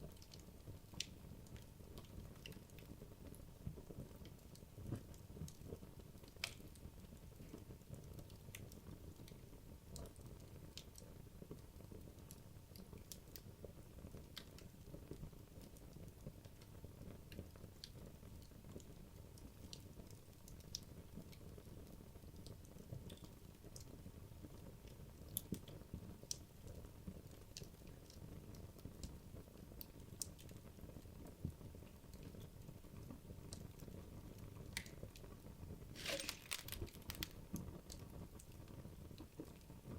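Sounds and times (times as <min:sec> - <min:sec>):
logs burning in a fireplace: 0:00.0 - 0:39.9.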